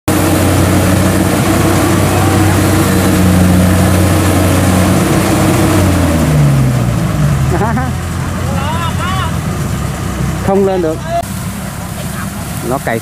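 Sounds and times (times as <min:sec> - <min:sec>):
diesel engine humming: 0:00.1 - 0:13.0.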